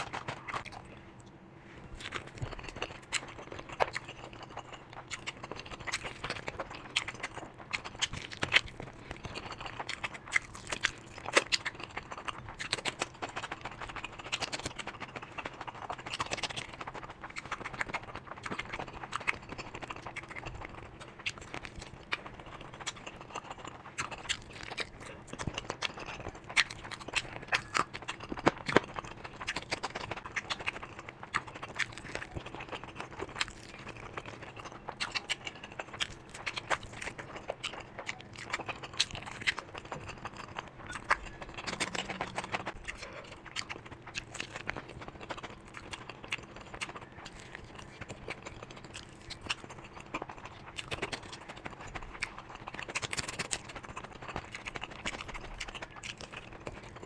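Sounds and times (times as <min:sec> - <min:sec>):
chewing and crunching: 0:00.0 - 0:57.0
faint steady hum: 0:00.0 - 0:57.0.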